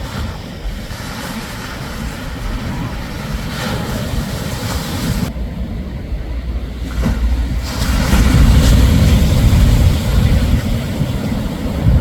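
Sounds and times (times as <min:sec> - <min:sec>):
waves breaking on a beach: 0:00.0 - 0:12.0
wind rumbling on microphone: 0:00.0 - 0:12.0.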